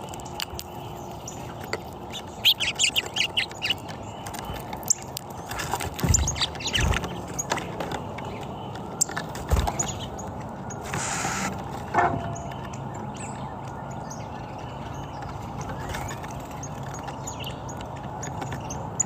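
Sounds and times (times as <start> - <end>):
birds chirping: 0.0 - 19.0
steady background noise: 0.0 - 19.0.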